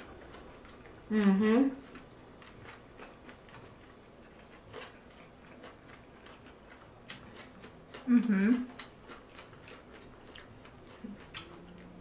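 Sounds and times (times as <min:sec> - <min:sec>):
chewing mouth sounds: 0:00.0 - 0:12.0.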